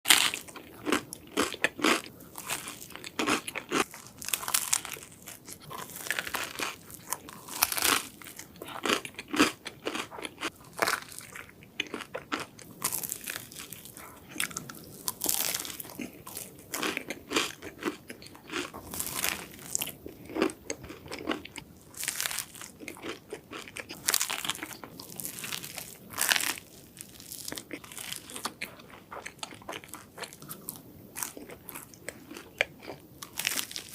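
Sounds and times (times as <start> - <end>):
chewing: 0.1 - 33.9.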